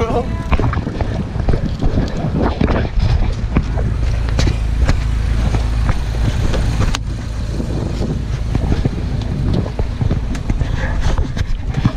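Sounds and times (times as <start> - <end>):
wind rumbling on microphone: 0.0 - 11.9.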